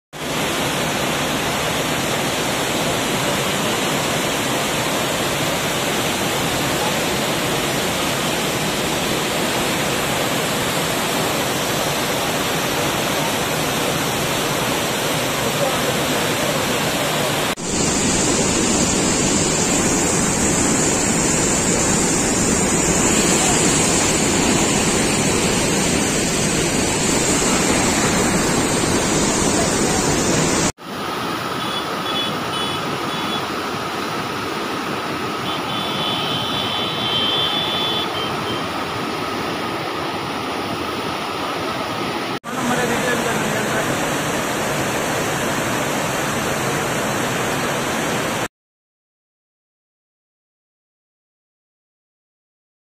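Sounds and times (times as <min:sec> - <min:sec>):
river rushing: 0:00.2 - 0:48.5.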